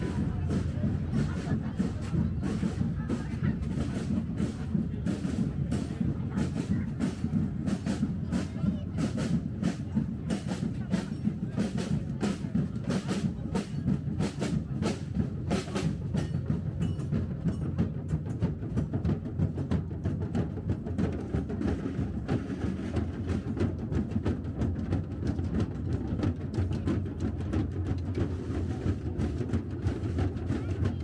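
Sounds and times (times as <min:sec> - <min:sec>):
drums beating marching rhythm: 0:00.0 - 0:31.0
low crowd rumble: 0:00.0 - 0:31.0.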